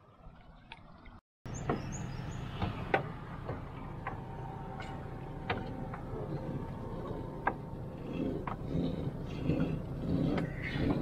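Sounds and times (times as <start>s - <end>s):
steady low rumble: 1.5s - 11.0s.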